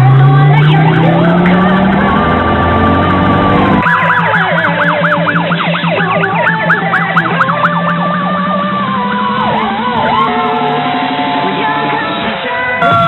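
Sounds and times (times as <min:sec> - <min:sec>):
fire engine siren yelp: 0:00.0 - 0:11.4, 0:12.8 - 0:13.0
other sirens: 0:00.0 - 0:13.0.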